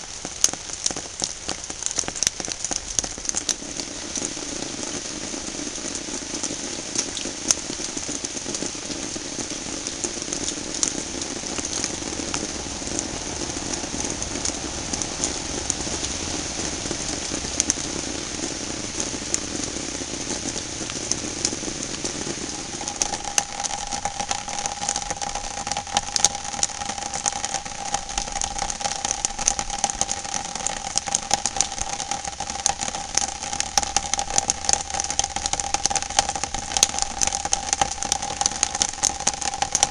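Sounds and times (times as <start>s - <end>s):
rain on a plastic panel: 0.0s - 39.9s.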